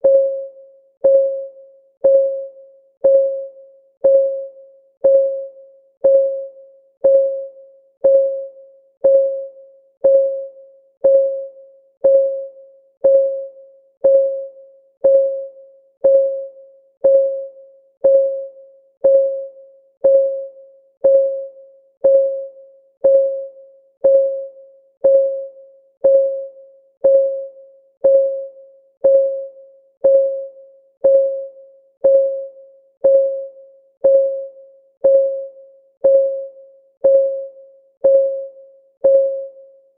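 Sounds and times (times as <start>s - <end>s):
electronic timer ticking: 0.0s - 39.6s.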